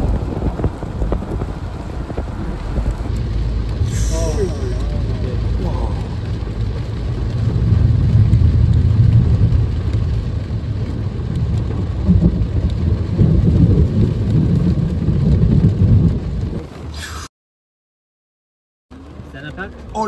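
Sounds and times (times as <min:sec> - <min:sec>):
thunder rumbling: 0:00.0 - 0:16.9
heavy rain: 0:00.0 - 0:17.3, 0:18.9 - 0:20.0.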